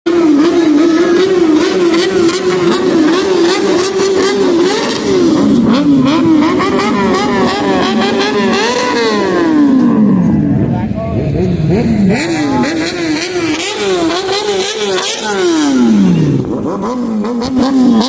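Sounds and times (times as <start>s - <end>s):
motorcycle engines revving: 0.1s - 18.0s.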